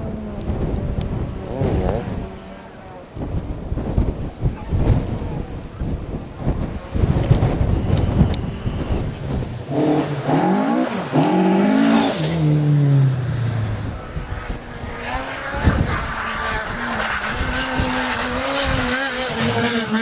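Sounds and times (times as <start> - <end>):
rally car engine revving past: 0.0 - 2.8, 6.8 - 20.0
wind buffeting microphone: 0.0 - 19.9.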